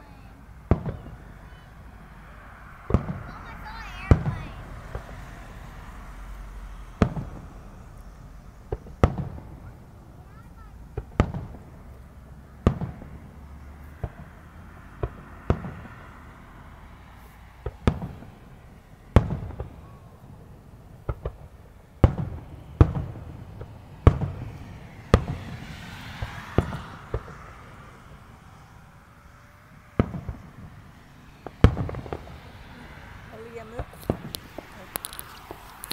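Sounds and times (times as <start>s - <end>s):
firework hiss: 0.0s - 35.9s
firework shells booming: 0.1s - 35.9s.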